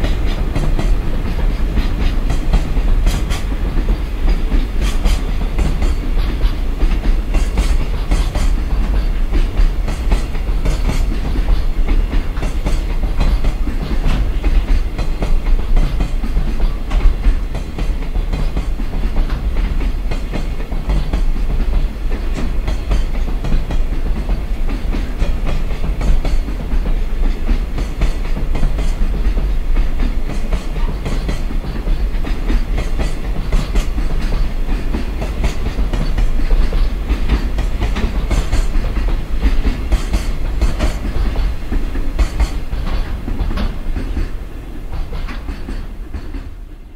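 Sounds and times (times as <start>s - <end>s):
wheels clicking over rail joints: 0.0s - 46.8s
freight train rumble: 0.0s - 46.9s.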